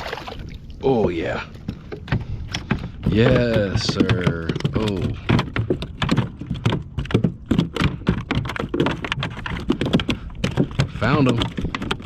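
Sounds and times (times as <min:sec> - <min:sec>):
knocking on plastic kayak: 0:02.0 - 0:12.0.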